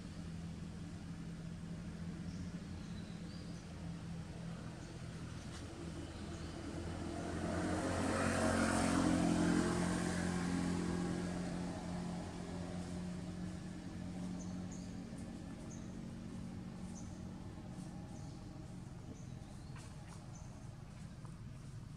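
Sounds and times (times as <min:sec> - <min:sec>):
vehicle passing by: 0:03.8 - 0:21.9.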